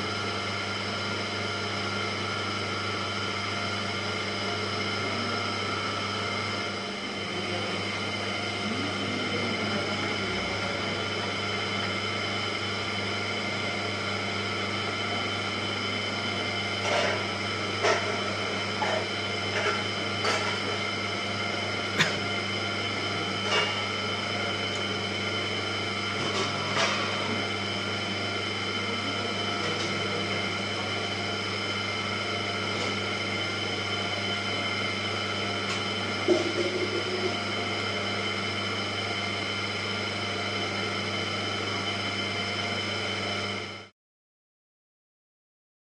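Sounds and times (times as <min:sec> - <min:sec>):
potter's wheel motor humming: 0:00.0 - 0:43.9.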